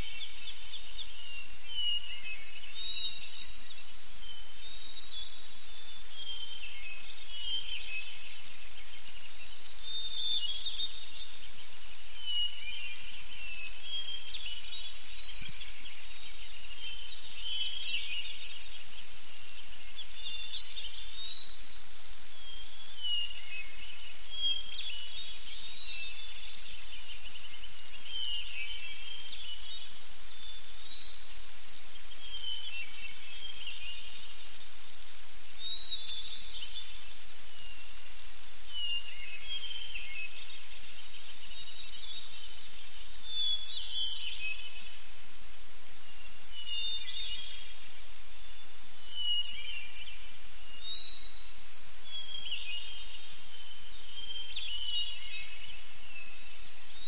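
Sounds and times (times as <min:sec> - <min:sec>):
songbirds chirping: 0:00.0 - 0:57.0
steady high hiss: 0:00.0 - 0:57.0.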